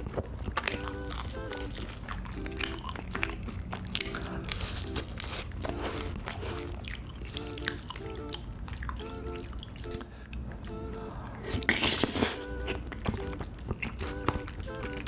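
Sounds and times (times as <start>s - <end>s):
chewing and smacking mouth sounds: 0.0s - 15.0s
soft background music: 0.6s - 15.0s.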